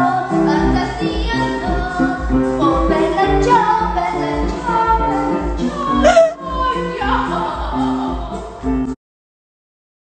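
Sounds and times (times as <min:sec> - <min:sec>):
woman singing: 0:00.0 - 0:08.7.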